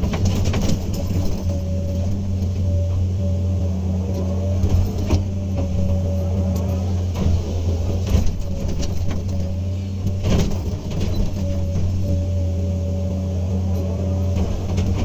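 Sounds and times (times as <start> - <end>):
excavator diesel engine running: 0.0 - 15.0
steady whine: 0.0 - 15.0.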